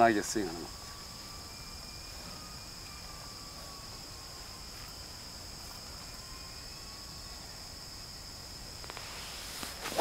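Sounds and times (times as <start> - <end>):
high-pitched insect chirring: 0.0 - 9.8.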